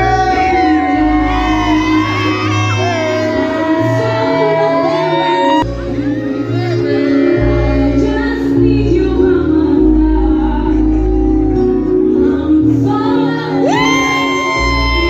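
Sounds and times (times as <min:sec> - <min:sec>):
music with deep bass: 0:00.0 - 0:15.0
person singing: 0:00.0 - 0:15.0.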